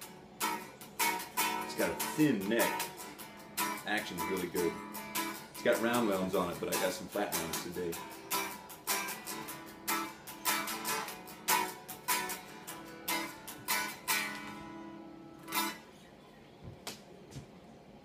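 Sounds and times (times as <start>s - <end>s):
unplugged electric guitar strumming: 0.0s - 15.9s.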